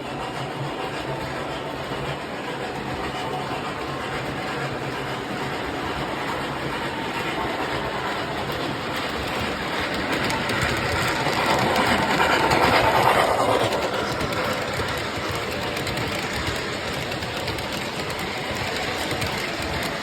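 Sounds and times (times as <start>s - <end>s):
model steam train running: 0.0s - 20.0s.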